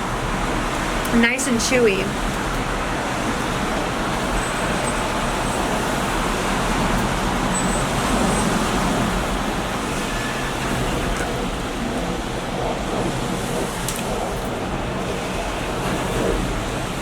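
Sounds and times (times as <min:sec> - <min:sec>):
rumbling hiss background noise: 0:00.0 - 0:17.0.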